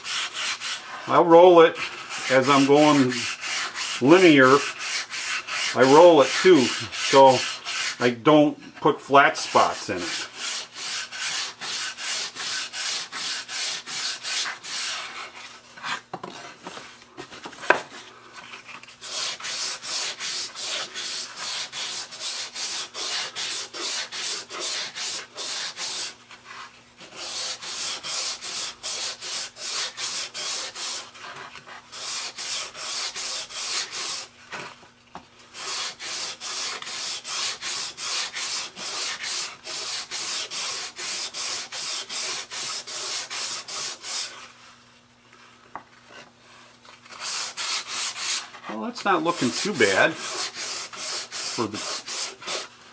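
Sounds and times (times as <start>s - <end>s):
sandpaper rubbing wood: 0.0s - 8.2s, 9.3s - 16.0s, 19.0s - 34.3s, 35.5s - 44.6s, 47.0s - 52.8s.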